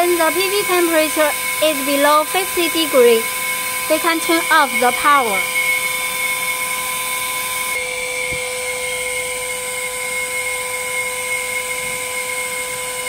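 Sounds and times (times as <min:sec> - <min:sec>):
blower motor whining: 0:00.0 - 0:13.0.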